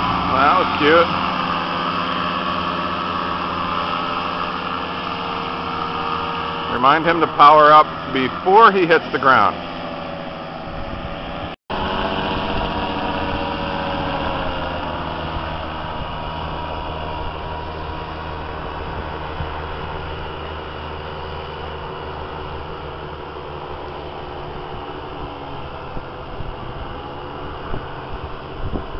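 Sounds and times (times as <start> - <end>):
paramotor engine running: 0.0 - 28.9.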